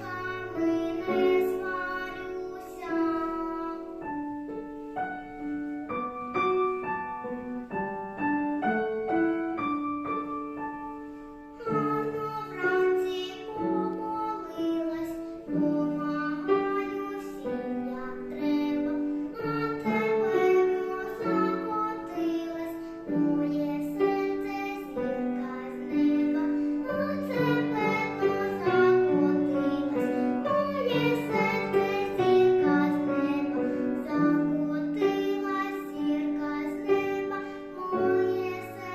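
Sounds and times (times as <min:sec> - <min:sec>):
girl singing: 0:00.0 - 0:38.9
piano accompaniment: 0:00.0 - 0:38.9.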